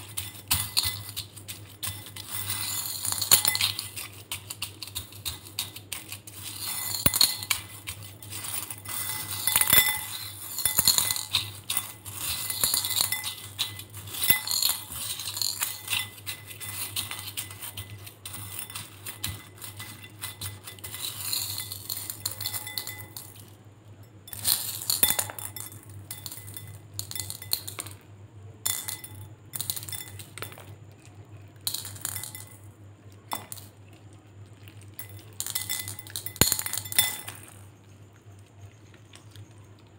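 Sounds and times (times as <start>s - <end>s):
plastic beads clicking against glass: 0.0s - 23.5s, 24.1s - 28.0s, 28.6s - 39.9s.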